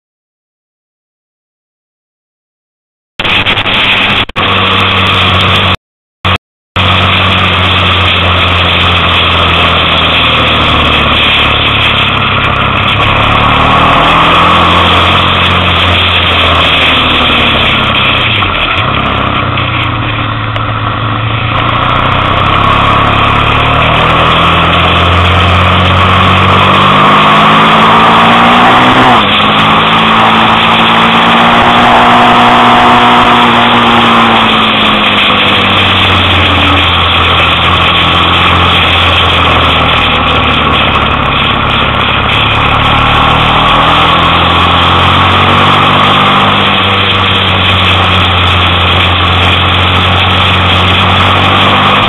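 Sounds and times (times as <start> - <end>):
motorcycle engine running: 3.2 - 5.8, 6.8 - 52.0
rush of wind noise: 3.2 - 5.8, 6.8 - 52.0.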